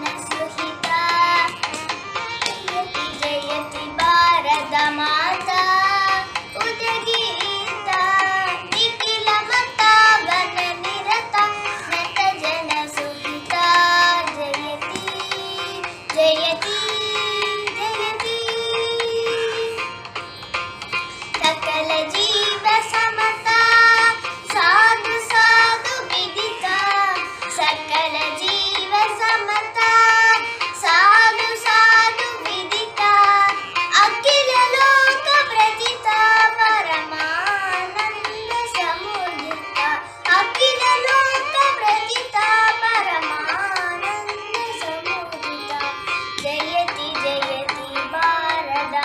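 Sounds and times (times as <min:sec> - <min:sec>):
girl singing: 0:00.0 - 0:20.0, 0:21.4 - 0:49.0.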